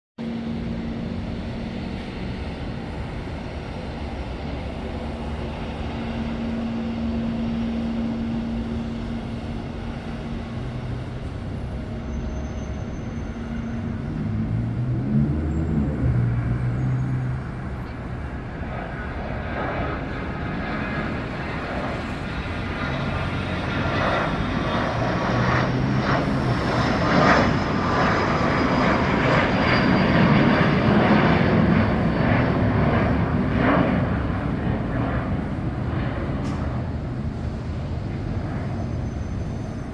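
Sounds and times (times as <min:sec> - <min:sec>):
high turbine whine: 0:00.2 - 0:39.9
jet engines roaring: 0:00.2 - 0:39.9.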